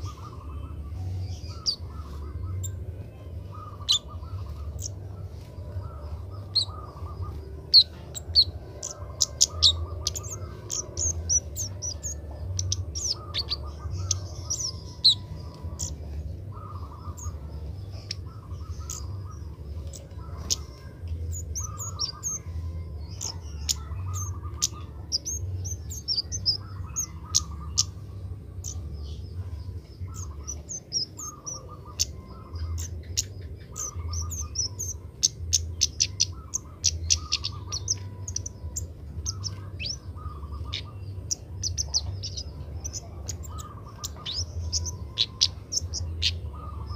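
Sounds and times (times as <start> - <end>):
bird chirping and warbling: 0.0 - 46.9
steady low hum: 0.0 - 46.9.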